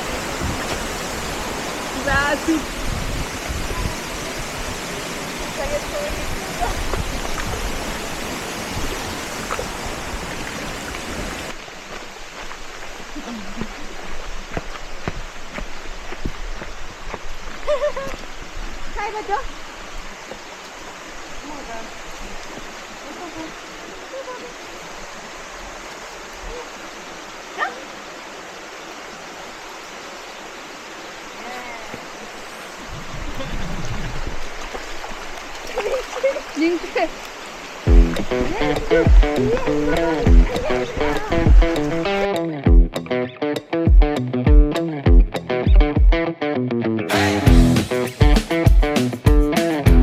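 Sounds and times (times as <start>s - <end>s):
rushing water roar: 0.0s - 42.8s.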